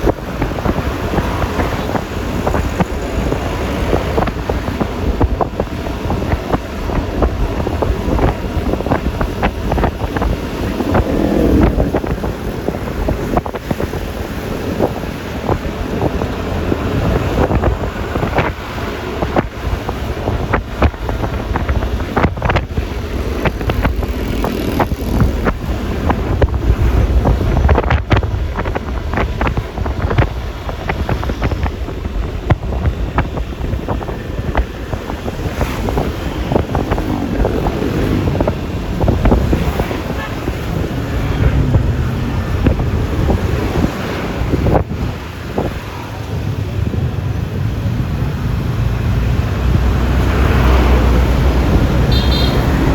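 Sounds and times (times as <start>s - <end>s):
road noise: 0.0s - 52.9s
scooter engine: 0.0s - 52.9s
wind buffeting microphone: 0.0s - 52.9s.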